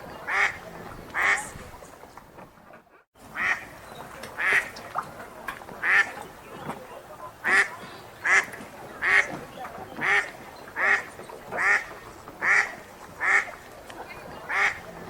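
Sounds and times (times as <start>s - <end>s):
ducks quacking: 0.0s - 2.2s, 3.2s - 5.1s, 5.7s - 15.0s.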